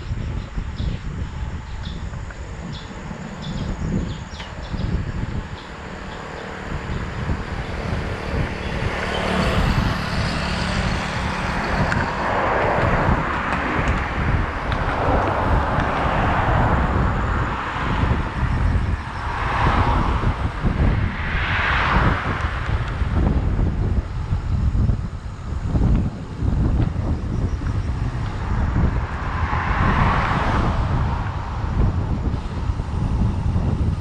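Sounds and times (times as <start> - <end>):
motor vehicles passing: 0.0 - 34.0
wind buffeting microphone: 0.0 - 34.0.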